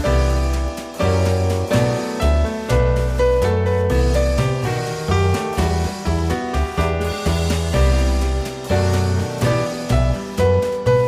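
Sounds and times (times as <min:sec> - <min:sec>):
piano instrumental music: 0:00.0 - 0:11.0.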